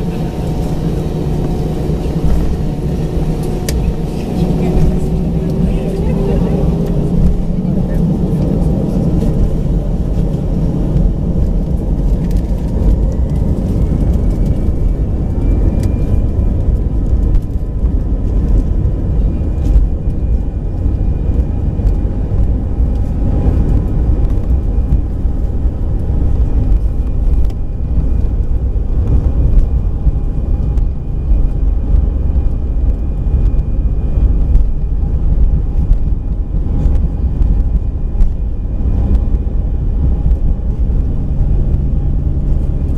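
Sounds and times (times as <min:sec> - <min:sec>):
jet engine rumble: 0:00.0 - 0:42.9
thin engine whine: 0:00.0 - 0:42.9.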